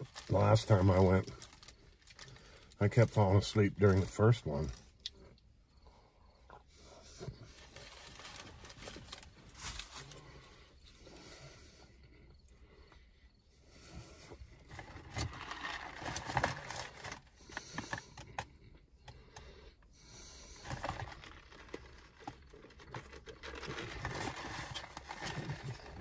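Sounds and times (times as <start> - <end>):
soft clicks and crackles of food packaging: 0.0 - 13.0, 13.9 - 26.0.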